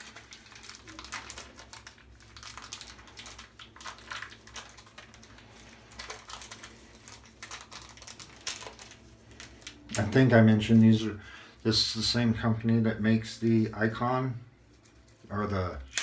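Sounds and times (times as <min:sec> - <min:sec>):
wrapping crinkling and rustling: 0:00.0 - 0:11.2, 0:13.2 - 0:16.0.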